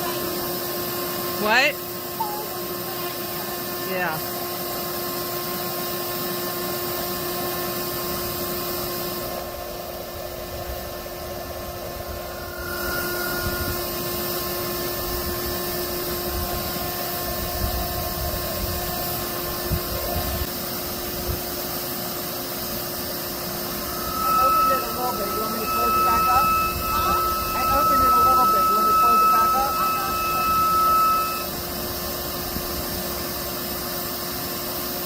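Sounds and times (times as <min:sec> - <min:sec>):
vacuum motor humming with rushing air: 0:00.0 - 0:35.0.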